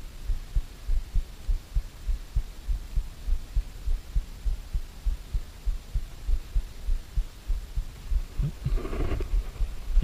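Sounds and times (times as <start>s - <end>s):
low dull thumps: 0.3s - 10.0s.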